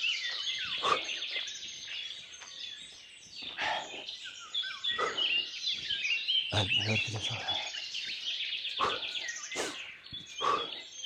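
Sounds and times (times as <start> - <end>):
birds singing and chirping: 0.0 - 11.0.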